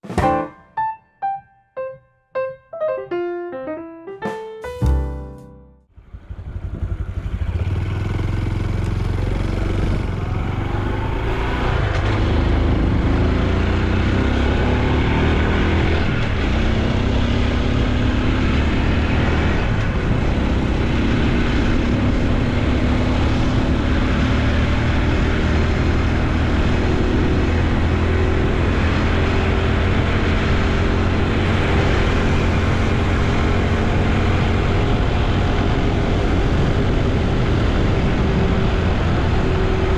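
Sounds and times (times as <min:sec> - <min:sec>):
motorcycle engine and exhaust: 0:05.9 - 0:39.9
wind and road noise: 0:06.0 - 0:39.9.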